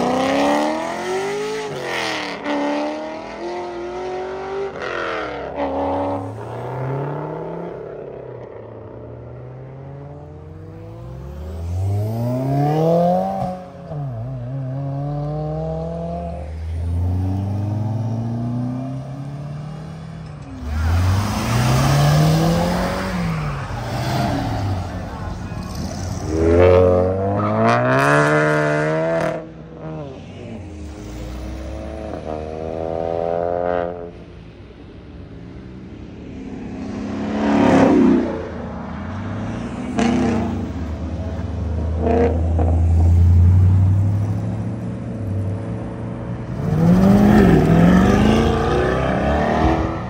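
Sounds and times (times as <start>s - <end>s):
car engines accelerating: 0.0s - 50.0s.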